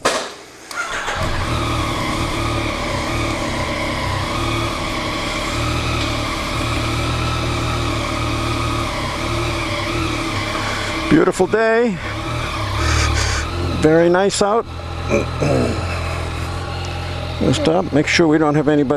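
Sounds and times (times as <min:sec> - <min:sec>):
motorcycle engine starting and idling: 0:00.7 - 0:18.9.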